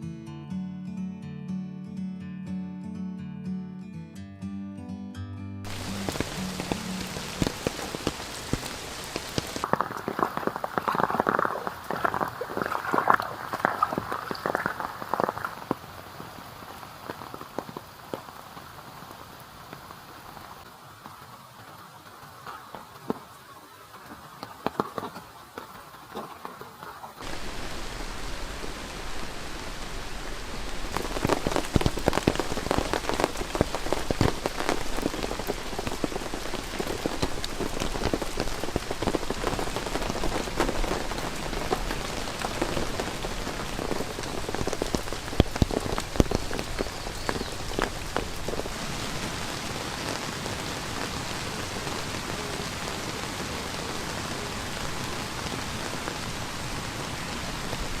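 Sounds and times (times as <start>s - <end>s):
heavy rain on canvas tent: 5.7s - 58.0s.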